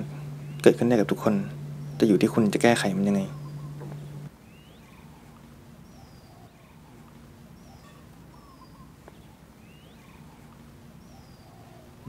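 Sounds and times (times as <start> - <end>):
birds chirping: 0.0 - 12.0
faint low hum: 0.0 - 12.0.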